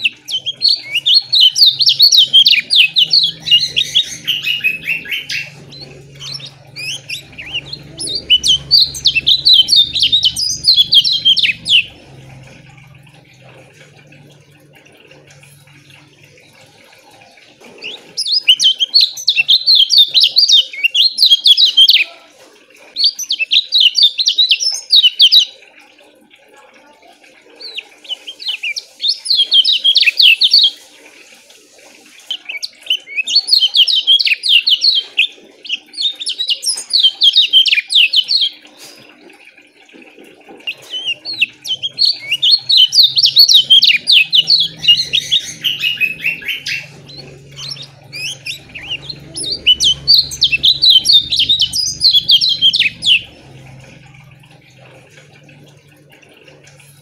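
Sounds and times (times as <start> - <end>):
bird singing rapid chirps: 0.0 - 15.4, 17.8 - 22.2, 23.0 - 25.6, 27.6 - 30.8, 32.3 - 38.6, 40.6 - 55.0.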